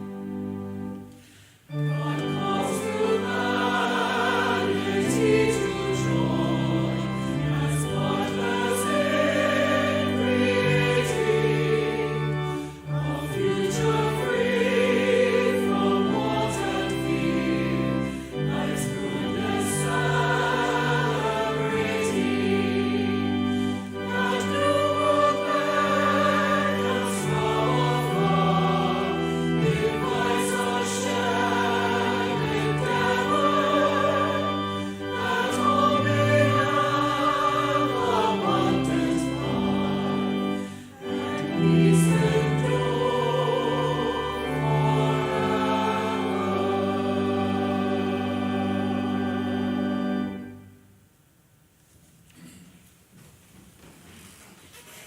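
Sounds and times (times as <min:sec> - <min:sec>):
choir singing: 0:00.0 - 0:50.8
sustained instrumental accompaniment: 0:00.0 - 0:50.9.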